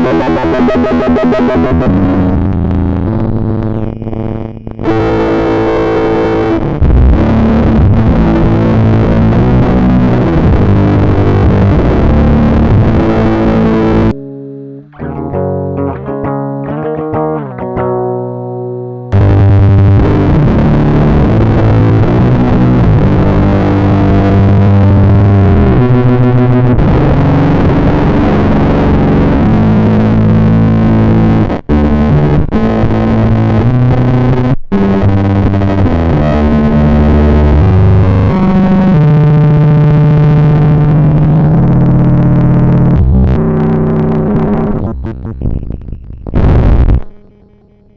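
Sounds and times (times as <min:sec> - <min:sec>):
distorted electric guitar riffs: 0:00.0 - 0:47.9.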